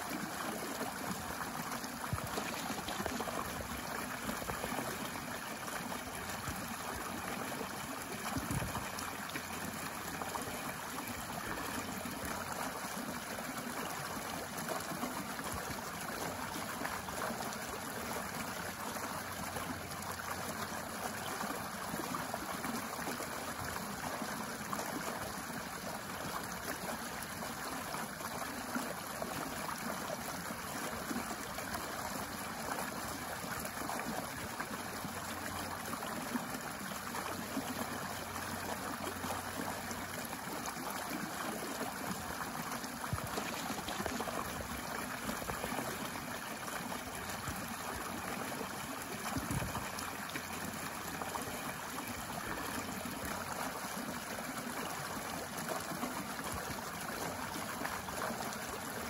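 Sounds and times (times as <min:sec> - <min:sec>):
stream trickling and splashing: 0:00.0 - 0:59.0.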